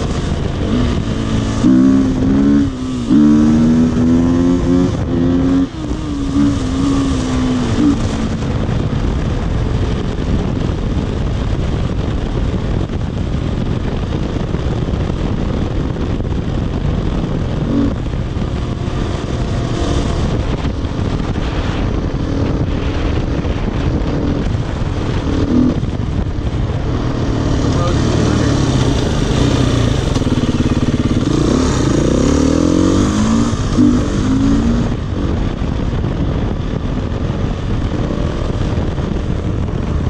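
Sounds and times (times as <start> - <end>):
dirt bike engine cruising: 0.0 - 40.0
wind noise on microphone: 0.0 - 40.0.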